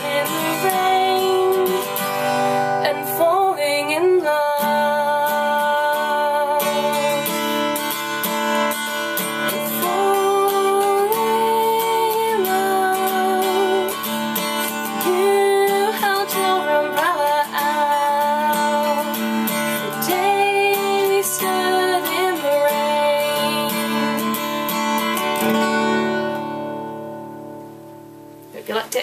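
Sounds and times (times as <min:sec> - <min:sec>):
woman singing: 0:00.0 - 0:08.2, 0:09.4 - 0:25.1
acoustic guitar strumming: 0:00.0 - 0:29.0.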